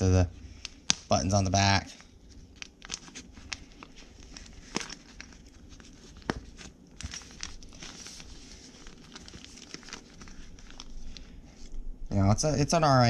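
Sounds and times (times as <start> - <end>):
plastic pouch crinkling: 0.5 - 11.8.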